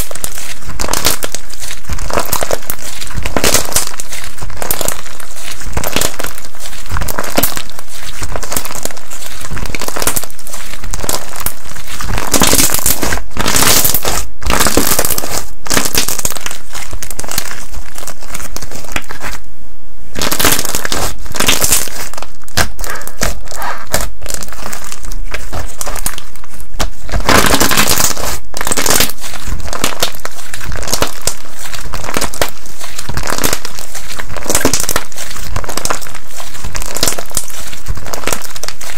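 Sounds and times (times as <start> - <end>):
slime squished by hand crackling: 0.0 - 19.4, 20.2 - 38.9.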